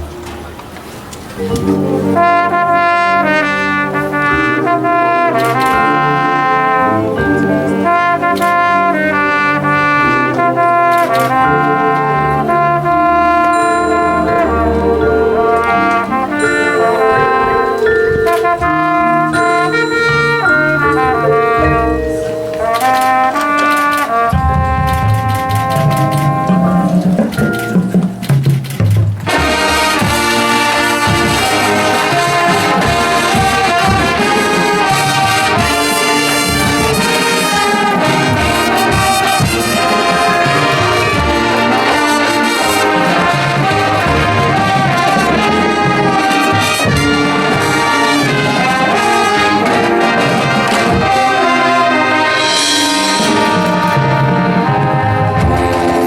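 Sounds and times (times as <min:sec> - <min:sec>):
marching band brass playing: 0:00.0 - 0:56.0
drum hits: 0:07.9 - 0:56.0.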